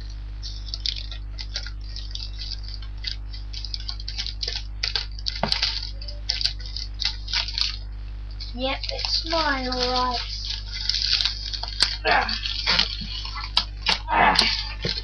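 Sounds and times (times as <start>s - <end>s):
low electrical hum: 0.0s - 15.0s
plastic mailer crinkling: 0.2s - 15.0s.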